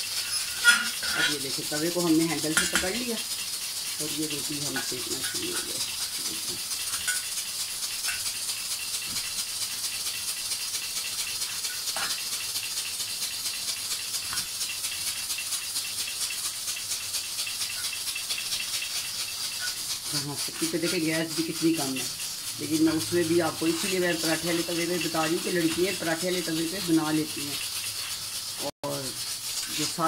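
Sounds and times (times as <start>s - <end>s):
flatbread crackling on hot pan: 0.0s - 30.0s.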